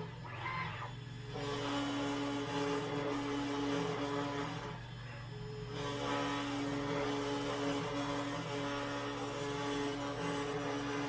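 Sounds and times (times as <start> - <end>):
router spindle motor running: 0.0 - 11.0
stepper motors whining: 0.0 - 11.0.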